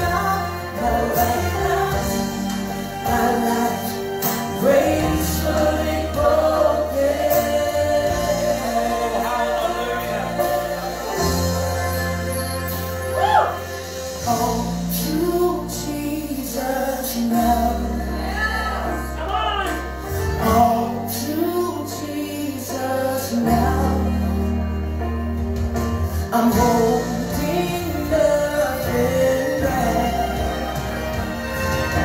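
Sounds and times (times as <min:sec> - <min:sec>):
bass notes: 0:00.0 - 0:22.1, 0:22.7 - 0:32.0
keyboard: 0:00.0 - 0:32.0.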